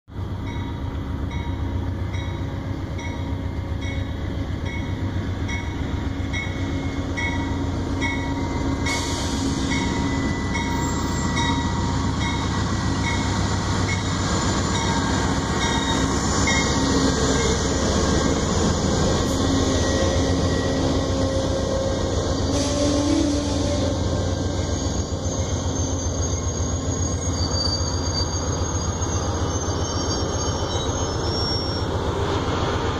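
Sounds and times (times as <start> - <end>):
diesel locomotive running: 0.1 - 32.9.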